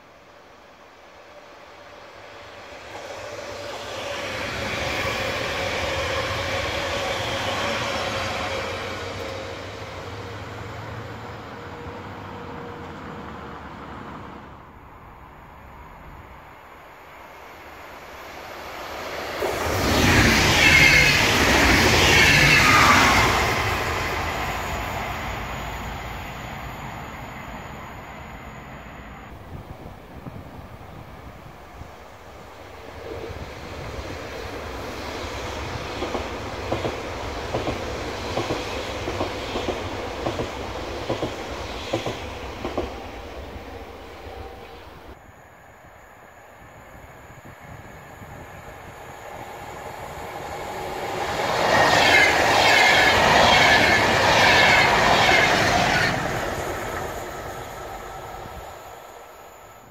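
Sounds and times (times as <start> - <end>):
electric trains passing: 0.0 - 59.9.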